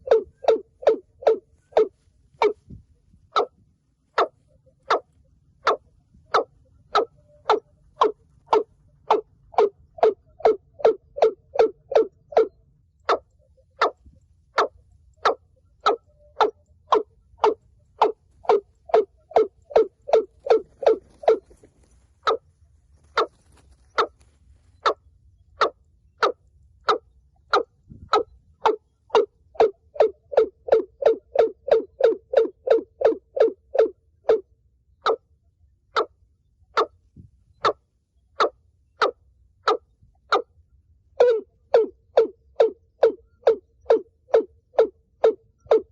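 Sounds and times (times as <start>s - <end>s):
bird deep repeated calls: 0.0s - 45.9s.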